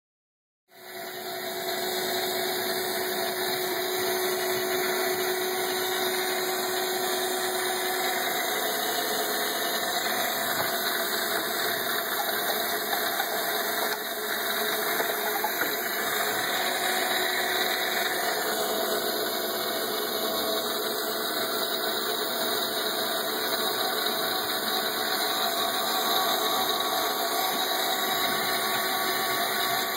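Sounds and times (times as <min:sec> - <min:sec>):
electric pump humming: 0:00.7 - 0:29.9.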